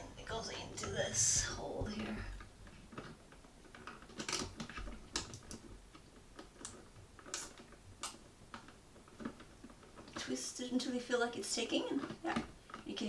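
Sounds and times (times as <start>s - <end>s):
small clicks and scrapes of wires: 0.4s - 13.0s.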